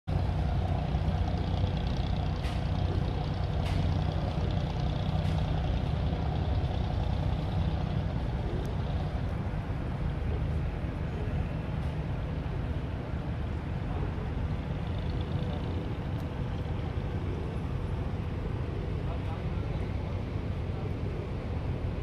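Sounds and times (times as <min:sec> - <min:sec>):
boat diesel engine droning: 0:00.1 - 0:22.0.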